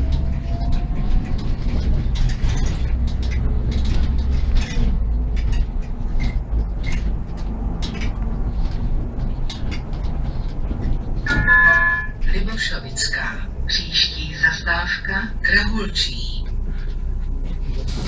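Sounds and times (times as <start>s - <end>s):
bus fittings rattling: 0.0s - 14.6s
bus engine drone: 0.0s - 18.0s.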